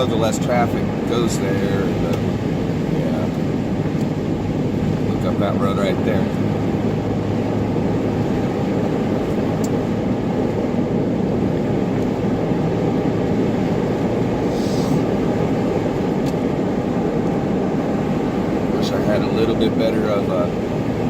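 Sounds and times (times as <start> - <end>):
car engine running: 0.0 - 21.0
tires on snowy road: 0.0 - 21.0.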